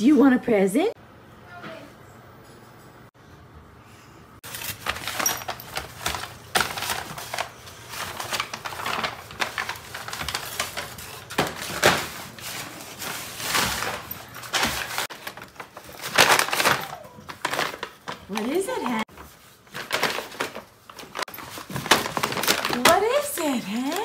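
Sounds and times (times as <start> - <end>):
paper bag crackling and tearing: 4.4 - 24.0.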